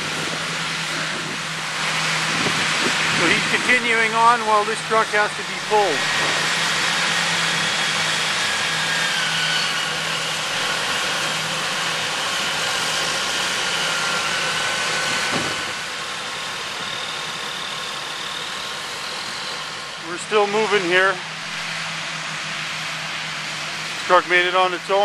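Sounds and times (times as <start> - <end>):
heavy diesel engines running: 0.0 - 25.0.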